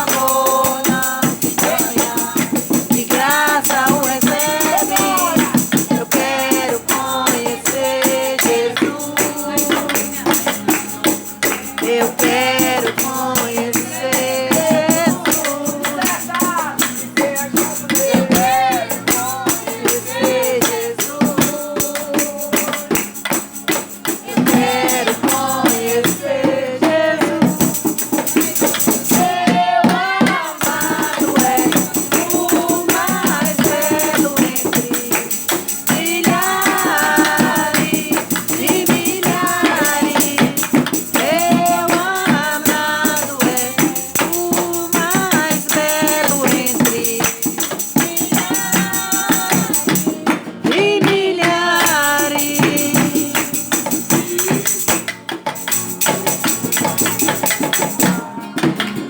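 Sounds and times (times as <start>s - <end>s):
shaken tambourine rhythm: 0.0s - 59.0s
voices singing praise song: 0.0s - 59.0s.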